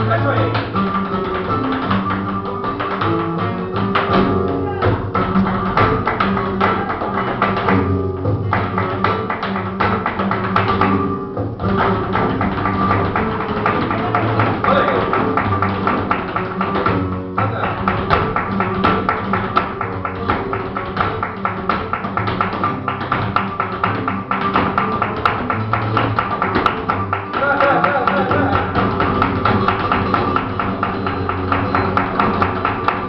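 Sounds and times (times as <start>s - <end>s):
flamenco guitars playing: 0.0s - 33.0s
shoes tapping on floor: 0.0s - 33.0s.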